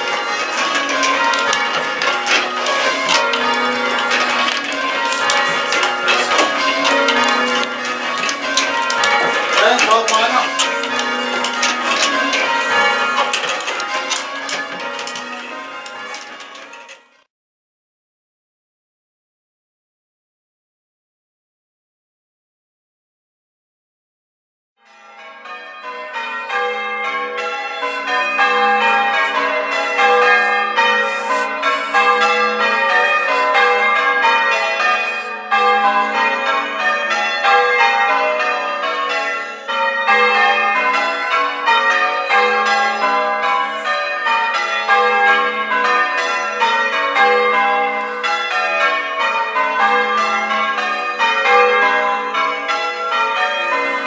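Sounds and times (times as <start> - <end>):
church bells change ringing: 0.0 - 17.3, 24.8 - 54.0.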